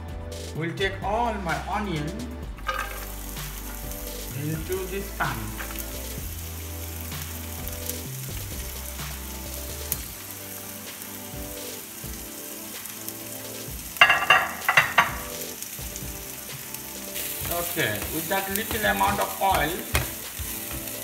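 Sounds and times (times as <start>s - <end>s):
onion sizzling in hot oil: 2.6s - 21.0s.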